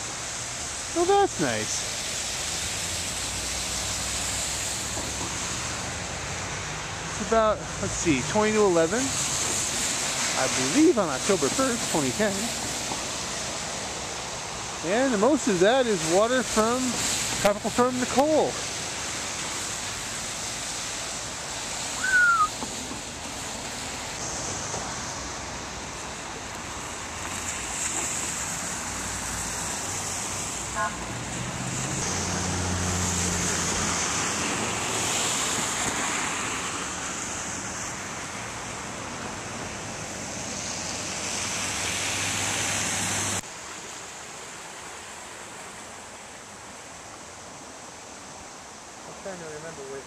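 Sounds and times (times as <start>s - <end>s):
floodwater rushing: 0.0s - 50.0s
road traffic: 0.0s - 50.0s.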